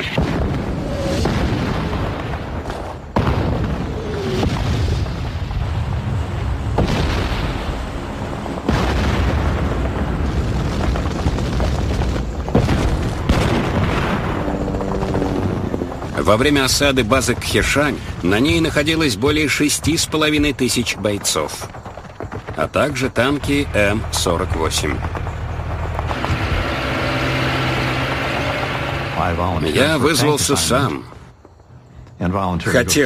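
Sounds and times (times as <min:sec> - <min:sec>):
artillery shells exploding: 0:00.0 - 0:30.9.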